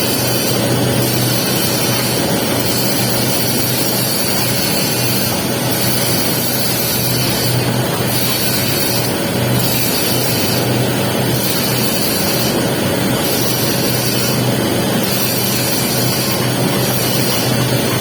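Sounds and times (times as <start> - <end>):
steady low hum: 0.0 - 18.0
welding arc hissing and crackling: 0.0 - 18.0.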